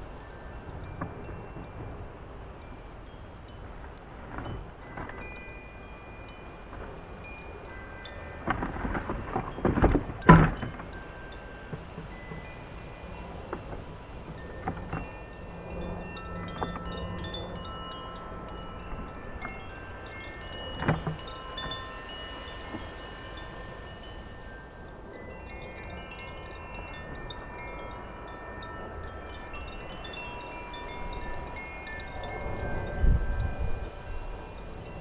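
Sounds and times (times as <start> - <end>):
wind chimes ringing: 0.0 - 35.0
wind rumble on microphone: 0.0 - 35.0.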